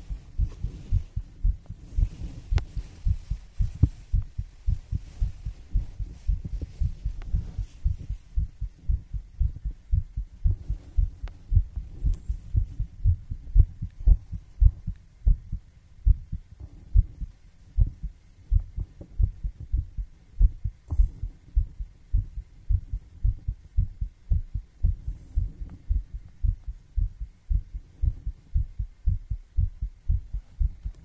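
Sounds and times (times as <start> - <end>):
heartbeat thumps: 0.0 - 31.0.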